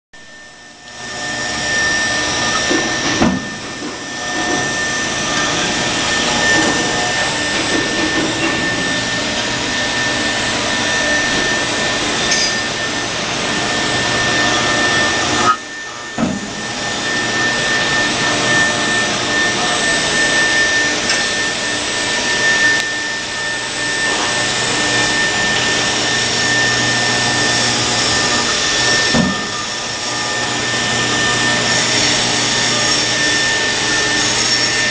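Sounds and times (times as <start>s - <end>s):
spindle high whine: 0.2s - 34.9s.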